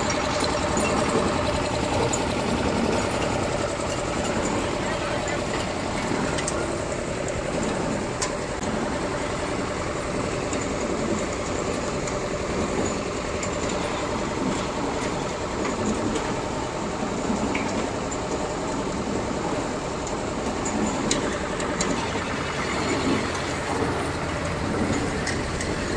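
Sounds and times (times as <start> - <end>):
washing machine hum: 0.0 - 25.9.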